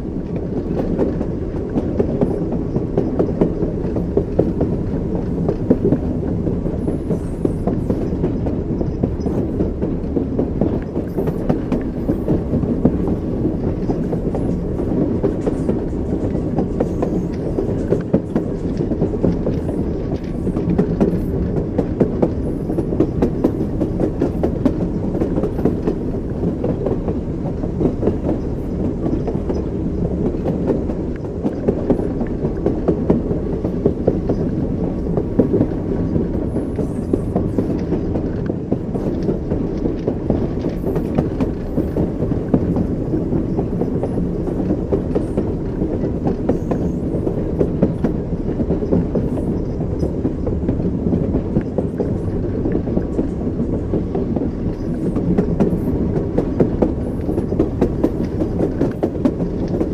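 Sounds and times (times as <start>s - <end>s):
low rumble of train carriage: 0.0s - 59.9s
train wheels clattering over rail joints: 0.0s - 59.9s.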